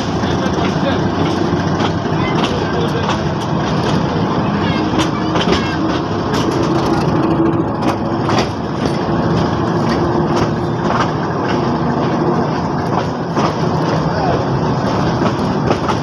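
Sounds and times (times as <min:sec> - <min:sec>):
train rumbling and rattling: 0:00.0 - 0:16.0
wheels and couplings clanking: 0:00.0 - 0:16.0.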